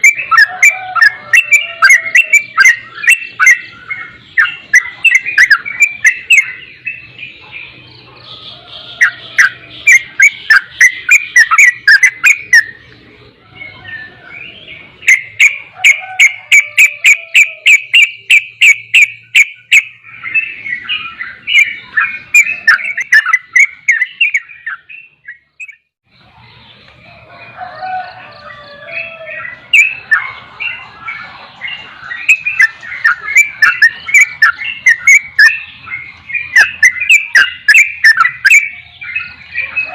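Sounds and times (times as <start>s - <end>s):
bulbul singing and chattering: 0.0s - 39.9s.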